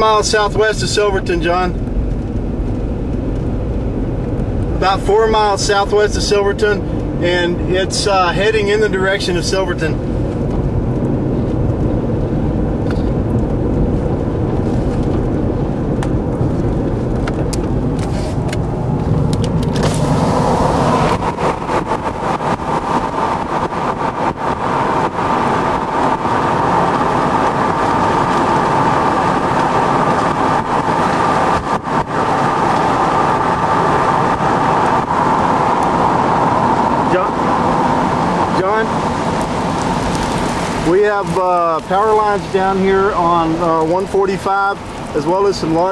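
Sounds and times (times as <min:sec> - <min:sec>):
road and wind noise in car: 0:00.0 - 0:45.9.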